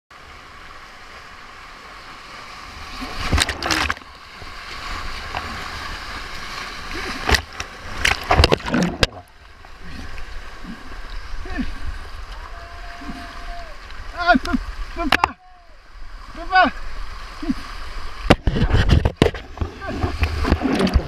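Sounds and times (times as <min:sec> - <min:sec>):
whitewater rapids rushing: 0:00.3 - 0:21.0
waves splashing over board: 0:00.9 - 0:21.0.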